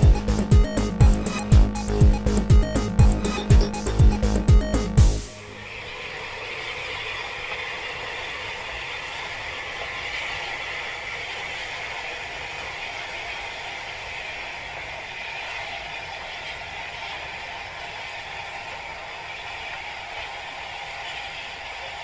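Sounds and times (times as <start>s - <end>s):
distant steam train passing: 0.0s - 22.0s.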